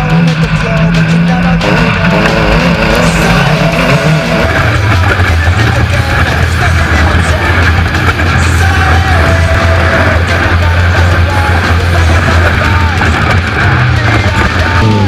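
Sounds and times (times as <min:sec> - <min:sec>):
loud rock music: 0:00.0 - 0:15.0
shouted vocals: 0:00.0 - 0:15.0.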